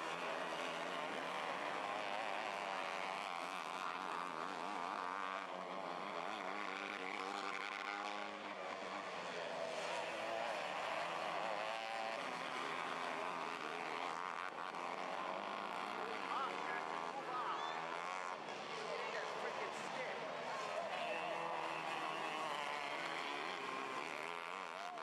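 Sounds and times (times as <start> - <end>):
racing car engines revving: 0.0 - 25.0.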